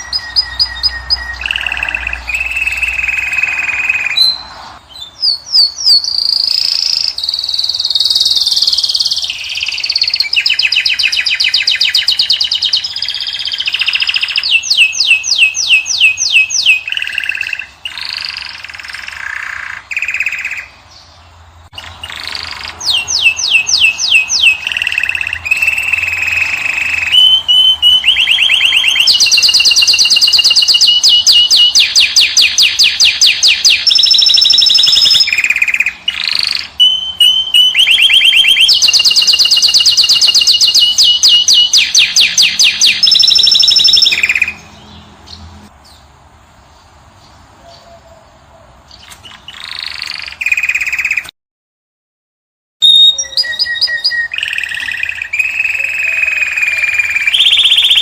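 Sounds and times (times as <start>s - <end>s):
finch singing fast trills: 0.0s - 46.1s, 48.9s - 51.3s, 52.8s - 58.0s.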